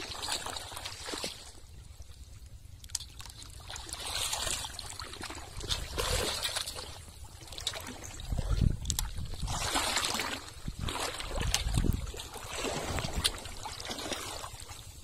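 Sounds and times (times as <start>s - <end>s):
pond water splashing and trickling: 0.0s - 15.0s.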